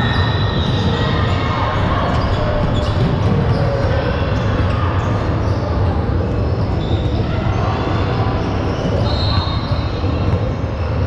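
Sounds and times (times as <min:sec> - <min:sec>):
shoe squeaks: 0:00.0 - 0:05.8, 0:06.4 - 0:11.0
din in a large hall: 0:00.0 - 0:11.0.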